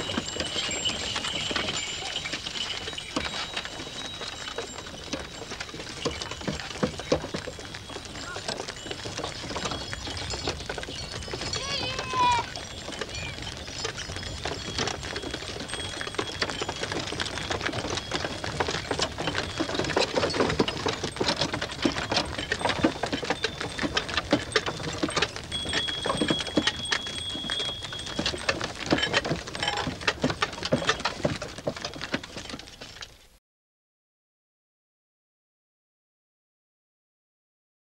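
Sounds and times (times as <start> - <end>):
wooden cart wheels clattering: 0.0 - 33.4.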